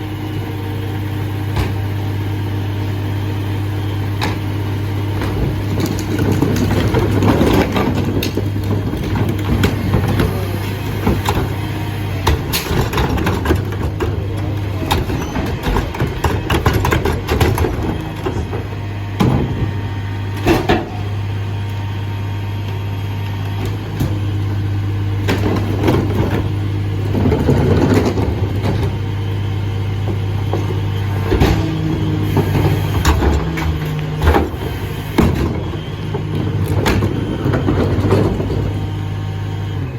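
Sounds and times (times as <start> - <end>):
garbage truck diesel engine idling: 0.0 - 39.9.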